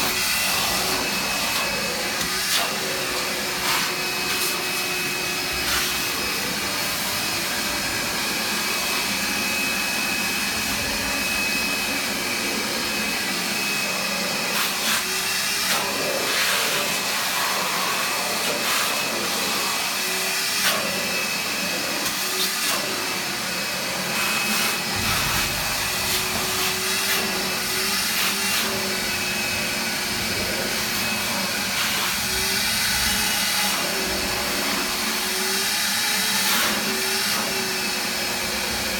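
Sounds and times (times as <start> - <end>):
shop vacuum running: 0.0 - 38.9.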